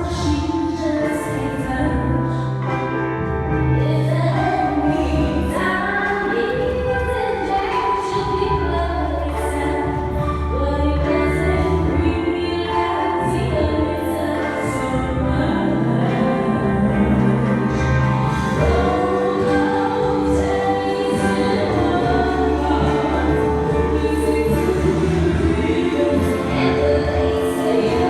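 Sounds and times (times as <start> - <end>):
steady bass line: 0.0 - 28.0
person singing lead vocals: 3.8 - 28.0
backing vocals: 4.1 - 28.0.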